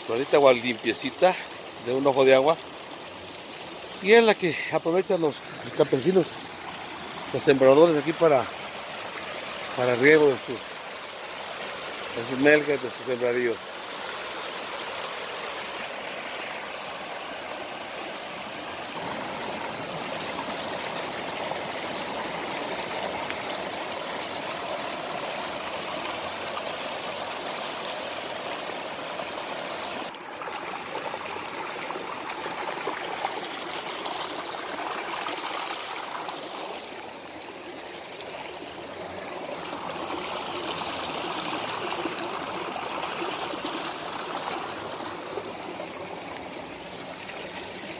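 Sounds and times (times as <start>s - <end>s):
stream rushing over rocks: 0.0s - 47.9s.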